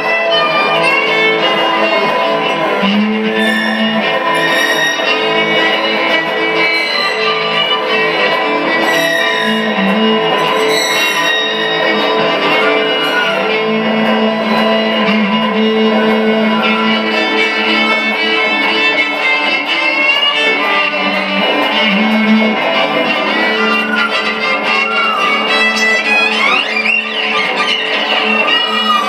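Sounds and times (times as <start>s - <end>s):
guitar accompaniment: 0.0s - 29.0s
violin playing: 0.0s - 29.0s.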